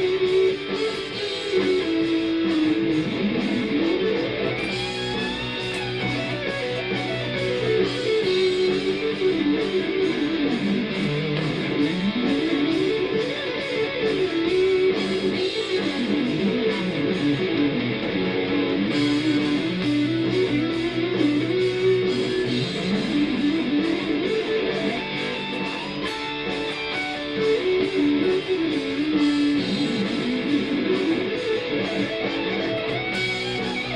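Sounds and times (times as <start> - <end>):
backing track with drum beat: 0.0 - 33.9
electric guitar lead runs: 0.0 - 33.9.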